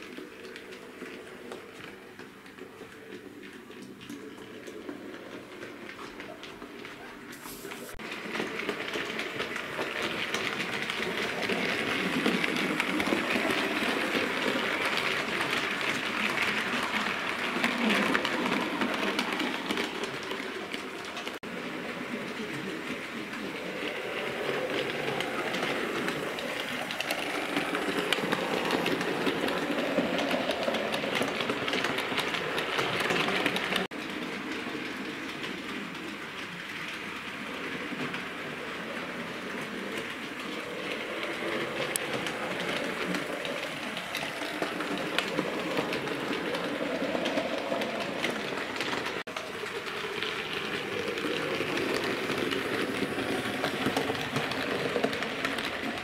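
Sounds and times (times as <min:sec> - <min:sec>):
wheels clicking over rail joints: 0:00.0 - 0:56.0.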